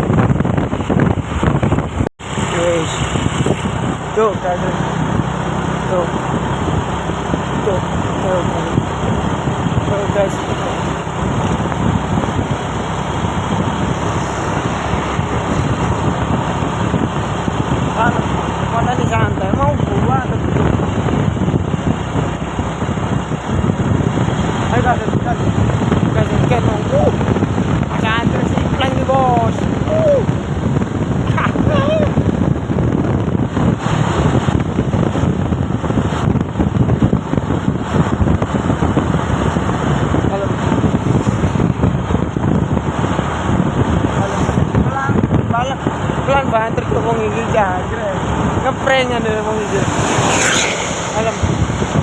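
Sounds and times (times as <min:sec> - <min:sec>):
road noise: 0:00.0 - 0:52.0
truck engine: 0:00.0 - 0:52.0
wind buffeting microphone: 0:00.0 - 0:52.0.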